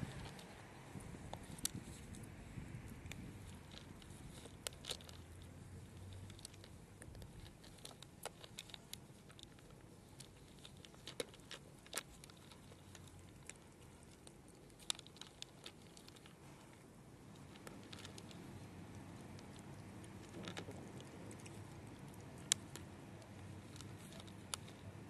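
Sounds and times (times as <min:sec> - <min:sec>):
cats crunching dry kibble: 0:00.0 - 0:25.0.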